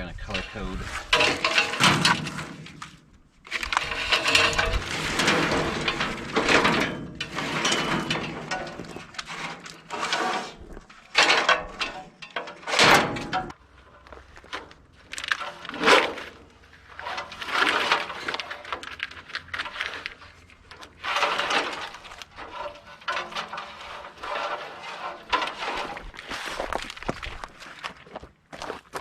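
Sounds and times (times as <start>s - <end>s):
wiring and parts being handled: 0.1s - 28.0s.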